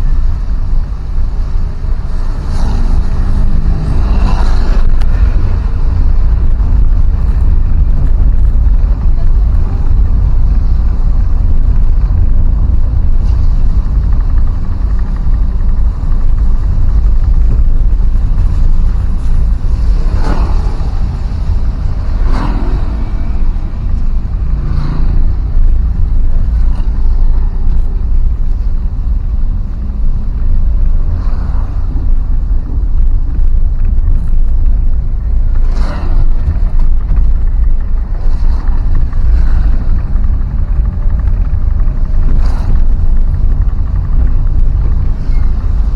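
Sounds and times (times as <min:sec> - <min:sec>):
vehicle road rumble: 0:00.0 - 0:45.9
vehicles passing: 0:00.0 - 0:45.9
wind on microphone: 0:00.0 - 0:45.9.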